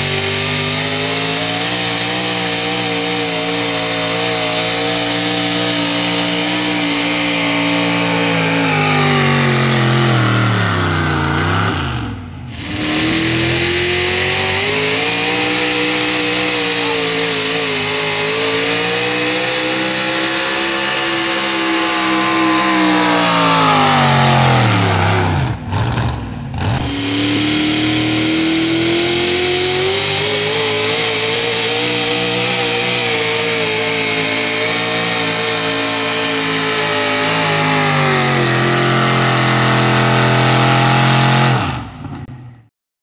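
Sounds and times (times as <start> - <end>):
pulling truck engines revving: 0.0 - 42.6.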